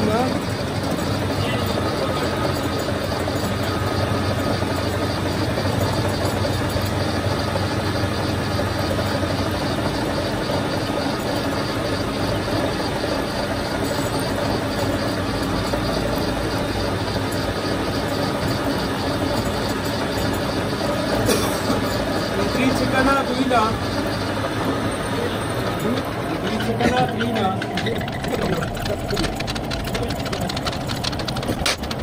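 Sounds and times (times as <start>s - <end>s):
metal lathe running: 0.0s - 32.0s.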